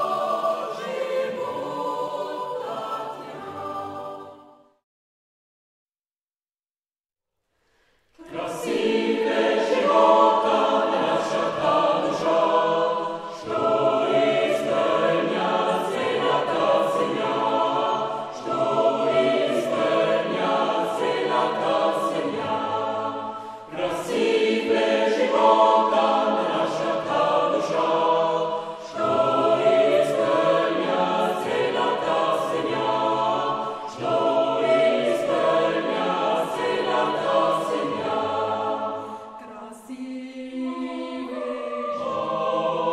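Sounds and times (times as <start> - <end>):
choir singing: 0.0 - 4.8, 8.2 - 42.9.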